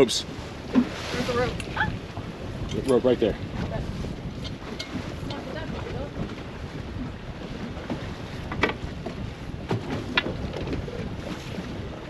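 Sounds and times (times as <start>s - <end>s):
motorboat motor running: 0.0s - 12.0s
water rushing past hull: 0.0s - 12.0s
wind buffeting microphone: 0.0s - 12.0s.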